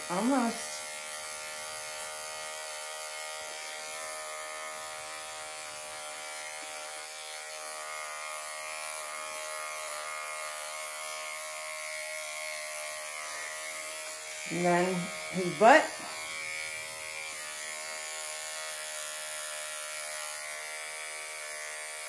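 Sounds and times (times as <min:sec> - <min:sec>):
electric clipper running: 0:00.0 - 0:22.0.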